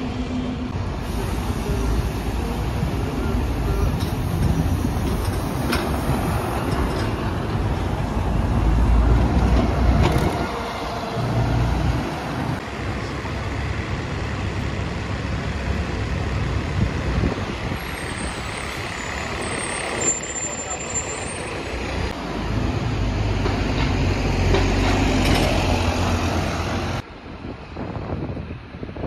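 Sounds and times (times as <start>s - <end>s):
bus engine rumble: 0.0s - 29.0s
traffic noise: 0.0s - 29.0s.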